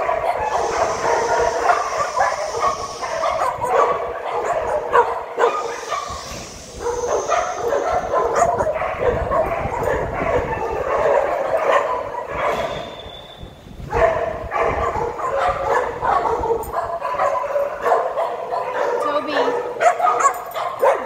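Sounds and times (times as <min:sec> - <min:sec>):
dogs barking and yipping: 0:00.0 - 0:21.0.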